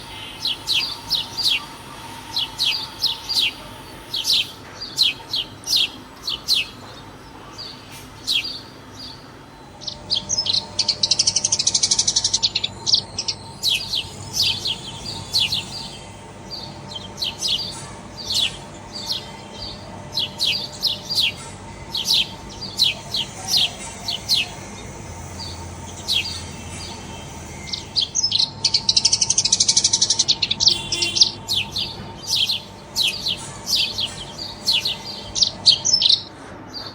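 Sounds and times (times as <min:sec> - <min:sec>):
birds chirping: 0:00.0 - 0:36.9.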